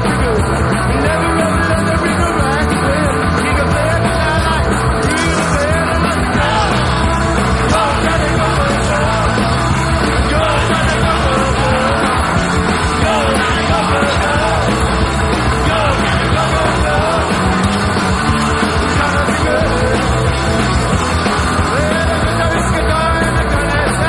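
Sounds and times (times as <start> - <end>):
rock music with singing: 0.0 - 24.0.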